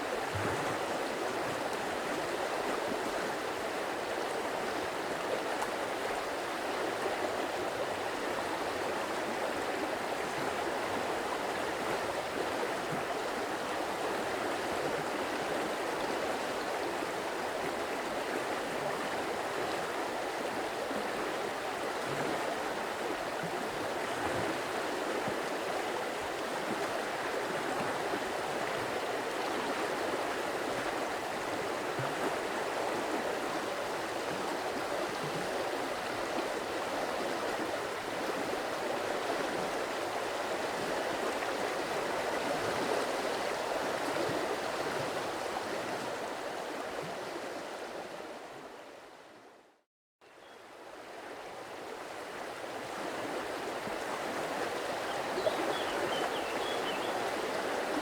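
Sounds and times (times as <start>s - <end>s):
stream water rushing: 0.0s - 49.0s, 50.8s - 58.0s.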